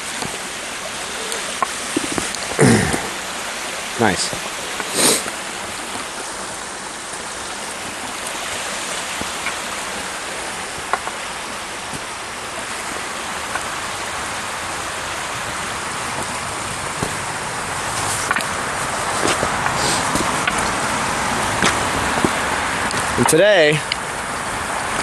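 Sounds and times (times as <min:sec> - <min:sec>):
creek water flowing over rocks: 0:00.0 - 0:25.0.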